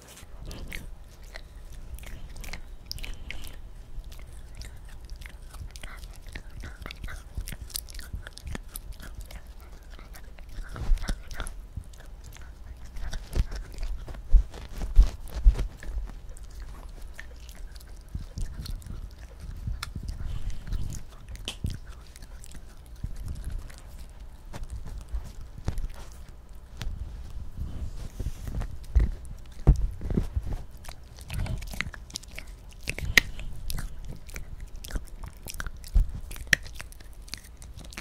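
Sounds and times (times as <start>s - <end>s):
dog chewing crunchy chew: 0.0s - 38.0s.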